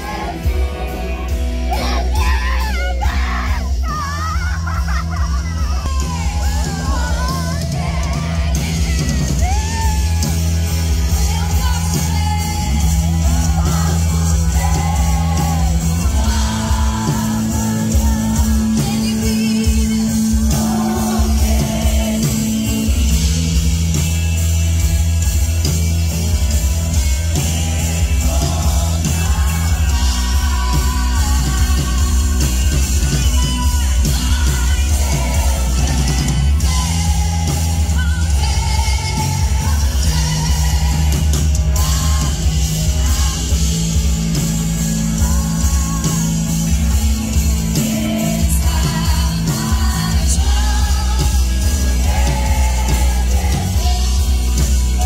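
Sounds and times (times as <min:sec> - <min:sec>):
crowd shouting along: 0:00.0 - 0:19.2, 0:19.8 - 0:23.1, 0:26.6 - 0:32.7, 0:33.3 - 0:55.0
woman singing lead: 0:00.0 - 0:23.6, 0:26.4 - 0:55.0
gospel band playing: 0:00.0 - 0:55.0.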